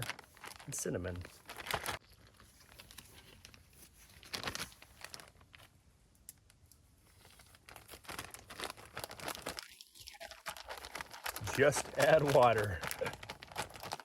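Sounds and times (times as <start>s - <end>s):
plastic bag crinkling: 0.0s - 5.7s, 7.1s - 14.0s.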